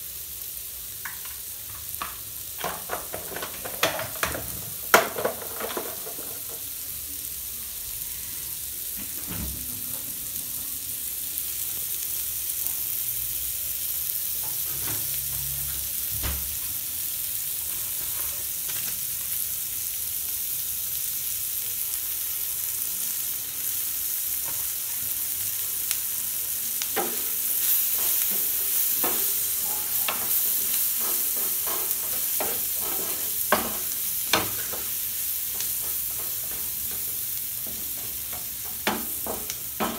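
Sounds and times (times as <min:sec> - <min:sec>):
bread sizzling in butter: 0:00.0 - 0:39.9.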